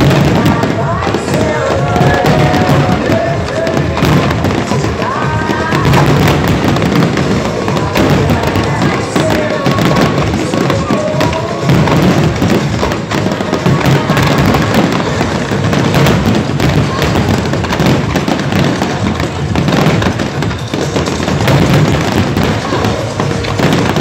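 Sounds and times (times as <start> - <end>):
fireworks bangs and crackling: 0.0 - 24.0
music playing: 0.0 - 24.0.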